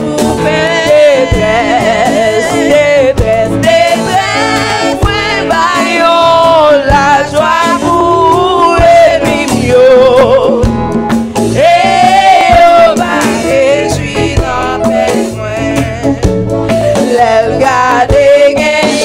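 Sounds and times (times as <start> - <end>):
woman singing into microphone: 0.0 - 10.8, 11.5 - 19.0
congas: 0.0 - 19.0.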